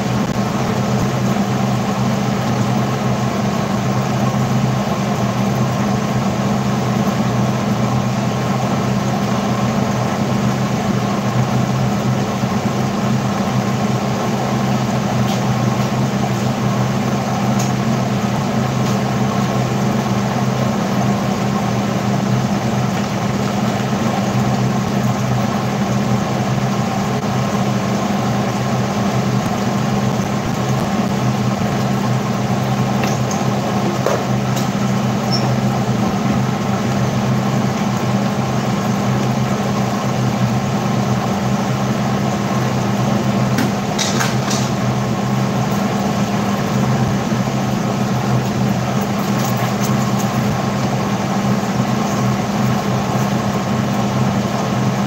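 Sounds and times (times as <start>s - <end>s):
appliance humming: 0.0s - 55.0s.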